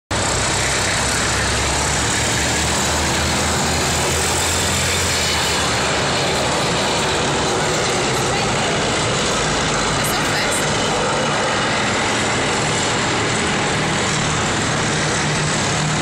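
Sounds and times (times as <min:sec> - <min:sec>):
constant loud noise: 0:00.1 - 0:16.0
tracked vehicle engines droning: 0:00.1 - 0:16.0.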